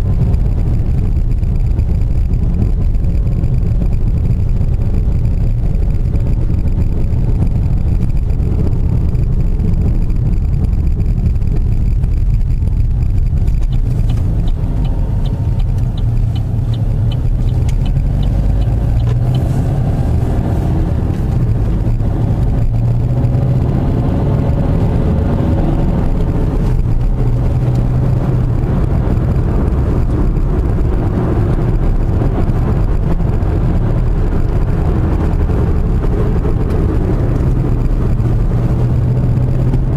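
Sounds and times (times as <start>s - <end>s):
car engine running: 0.0s - 39.9s
light regular ticking: 0.0s - 39.9s
road and tyre rumble: 0.0s - 39.9s.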